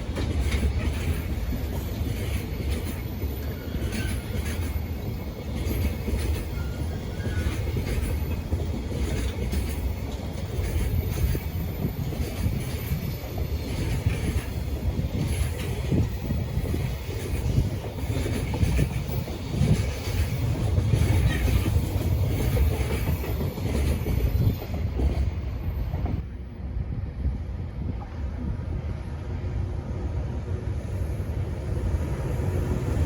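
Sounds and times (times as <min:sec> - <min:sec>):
freight train wheels rumbling on rails: 0:00.0 - 0:33.0.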